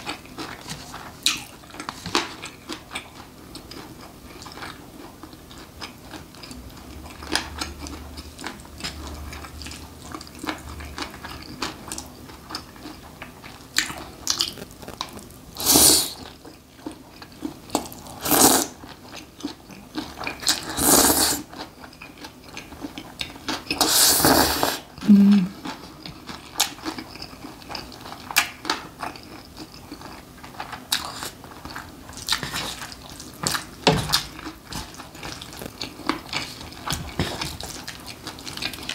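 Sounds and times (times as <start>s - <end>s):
chewing: 0.0s - 38.9s.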